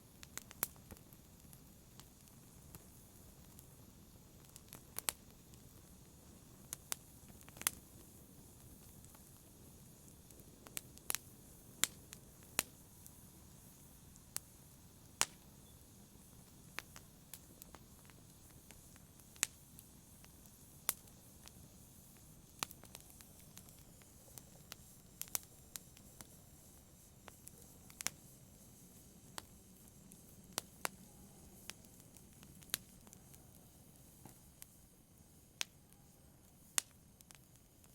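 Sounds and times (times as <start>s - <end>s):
faint low hiss: 0.0s - 37.9s
wood fire crackling: 0.0s - 37.9s.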